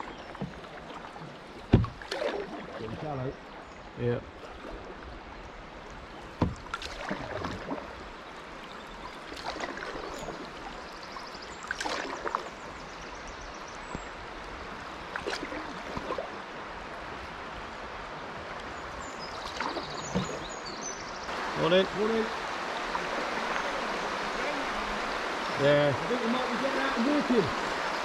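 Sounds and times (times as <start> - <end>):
canoe paddles splashing and knocking: 0.0 - 28.0
river water running over shallows: 0.0 - 28.0.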